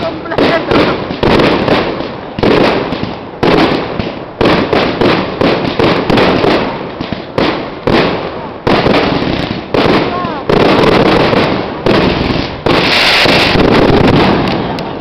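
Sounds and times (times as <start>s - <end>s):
fireworks bursting: 0.0s - 15.0s
fireworks crackle: 0.0s - 15.0s.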